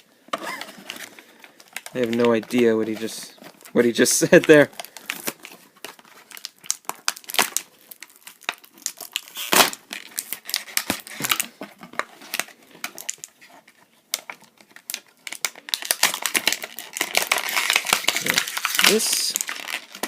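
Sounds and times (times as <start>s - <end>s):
plastic packaging crinkling: 0.3s - 20.0s.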